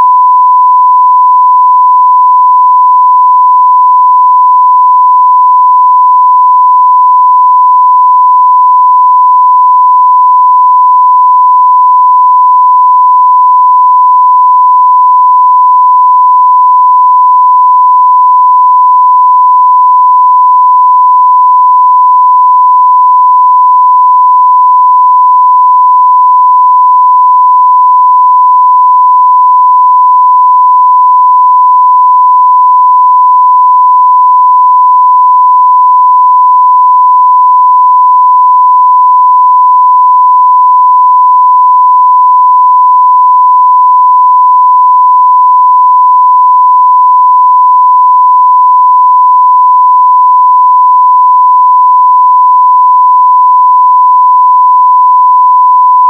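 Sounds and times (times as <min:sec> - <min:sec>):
sine wave test tone: 0:00.0 - 0:56.0.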